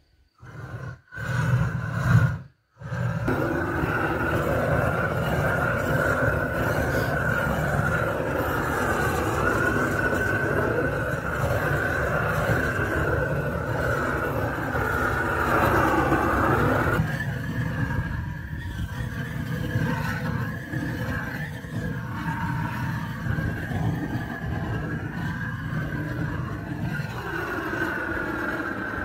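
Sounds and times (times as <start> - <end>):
blowtorch flame hissing: 0.0 - 29.0.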